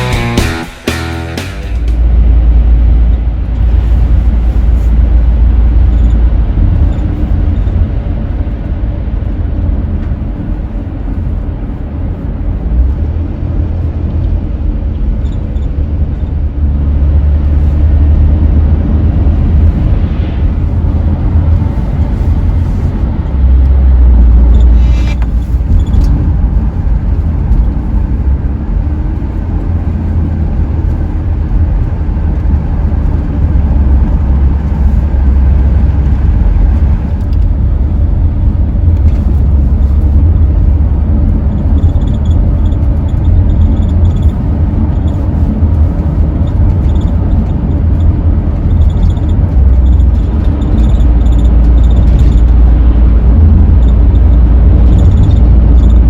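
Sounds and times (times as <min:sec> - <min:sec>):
car engine noise: 0:00.0 - 0:56.0
road rumble: 0:00.0 - 0:56.0.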